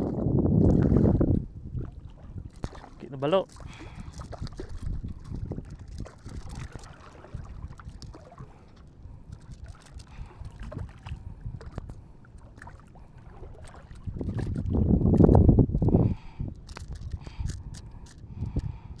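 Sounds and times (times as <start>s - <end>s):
water sloshing and lapping: 0.0s - 19.0s.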